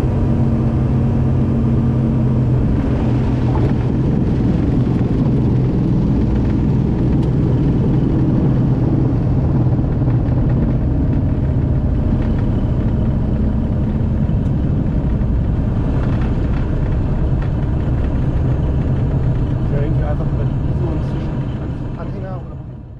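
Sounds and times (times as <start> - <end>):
aircraft engine droning: 0.0 - 22.9.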